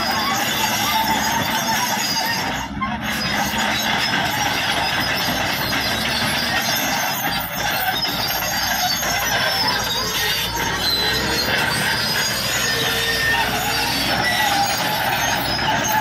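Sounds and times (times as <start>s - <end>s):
bulldozer diesel engine running: 0.0s - 16.0s
steel tracks squealing and clanking: 0.0s - 16.0s.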